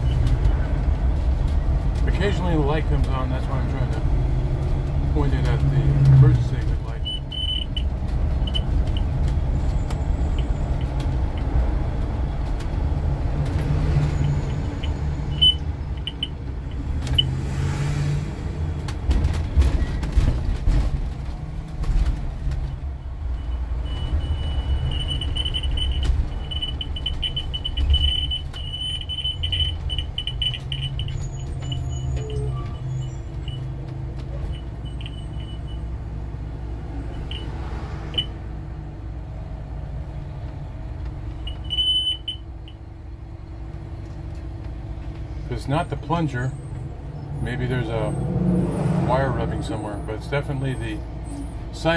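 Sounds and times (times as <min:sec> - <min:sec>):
bus engine rumble: 0:00.0 - 0:51.9.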